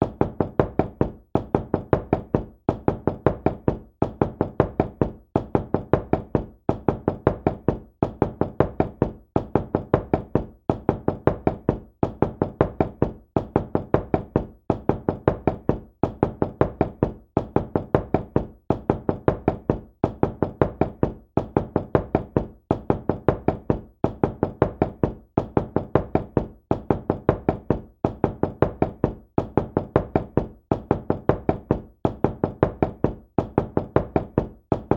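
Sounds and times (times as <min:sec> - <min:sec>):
knocking on a door: 0:00.0 - 0:34.9.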